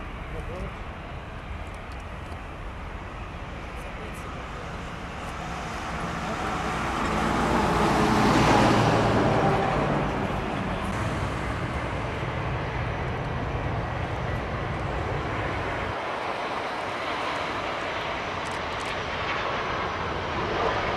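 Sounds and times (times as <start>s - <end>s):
jet airliner engine noise: 0.0s - 20.9s.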